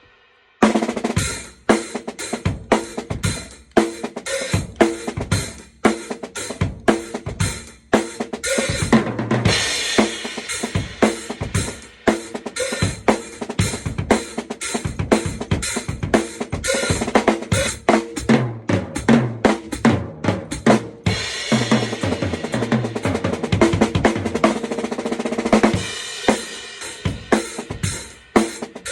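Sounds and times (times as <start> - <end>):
drum kit playing: 0.6 - 28.9.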